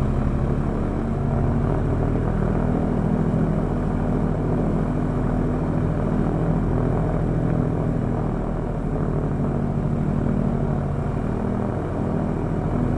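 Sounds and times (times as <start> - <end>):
radial aircraft engine running: 0.0 - 12.9.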